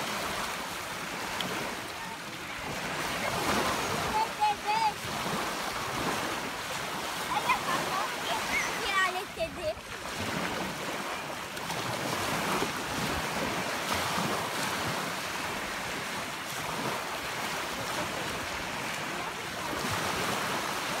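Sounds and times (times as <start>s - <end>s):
small waves washing on sand: 0.0s - 21.0s.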